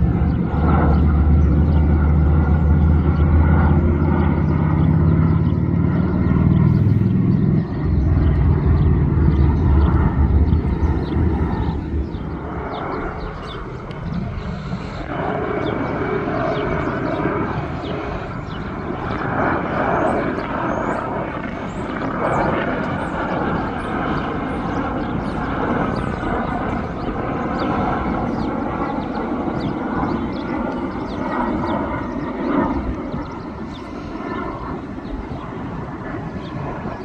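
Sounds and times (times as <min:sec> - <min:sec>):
jet airliner engine rumble: 0:00.0 - 0:37.0.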